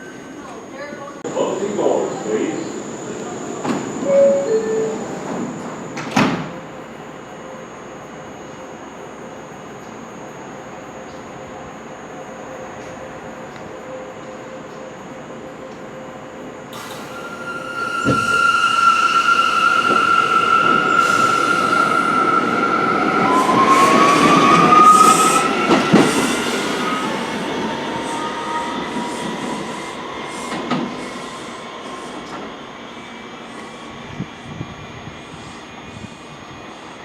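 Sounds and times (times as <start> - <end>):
subway wheels squealing on rails: 0.0 - 37.0.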